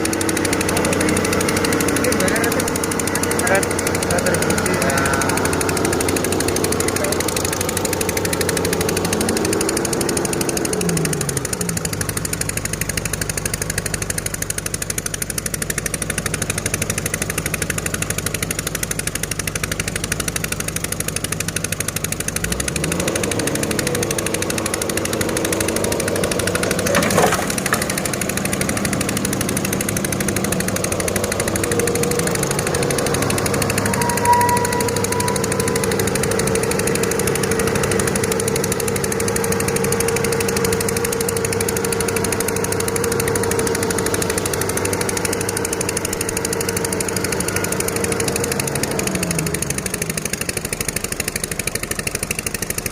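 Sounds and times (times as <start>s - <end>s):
excavator diesel engine clattering: 0.0s - 52.9s.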